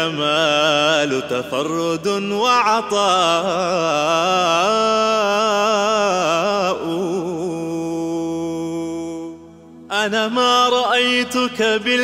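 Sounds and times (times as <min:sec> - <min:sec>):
man singing melismatic vowel: 0:00.0 - 0:12.0.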